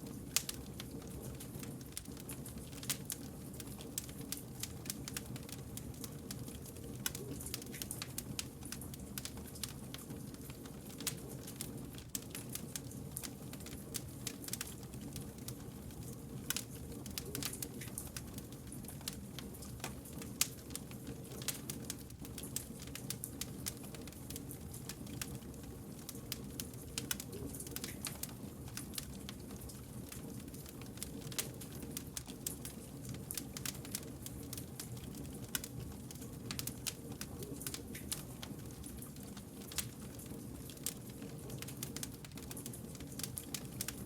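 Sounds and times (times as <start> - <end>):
campfire crackling and popping: 0.0 - 44.0
flames rumbling: 0.0 - 44.0.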